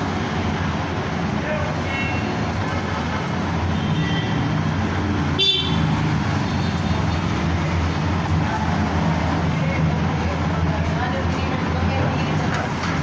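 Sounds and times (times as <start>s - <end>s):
background traffic noise: 0.0s - 13.0s.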